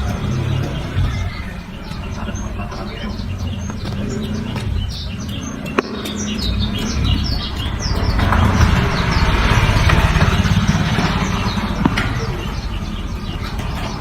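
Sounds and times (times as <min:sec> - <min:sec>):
bird singing high chirps: 0:00.0 - 0:14.0
steady low rumble: 0:00.0 - 0:14.0.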